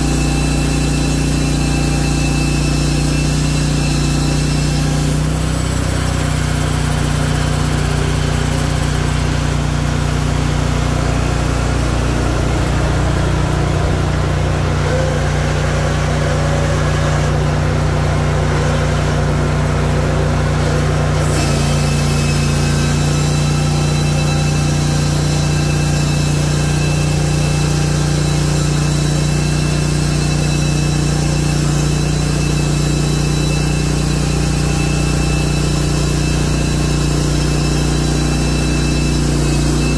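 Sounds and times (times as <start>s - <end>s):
band blade sawing log: 0.0s - 39.9s
sawmill engine running: 0.0s - 39.9s.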